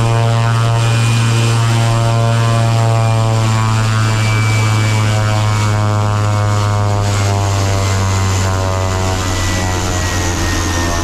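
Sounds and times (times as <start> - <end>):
high turbine whine: 0.0 - 11.0
propeller drone: 0.0 - 11.0.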